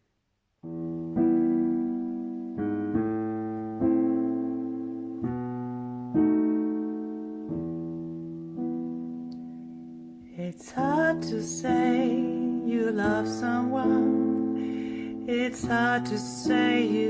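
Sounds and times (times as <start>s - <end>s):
piano chords: 0.6s - 17.0s.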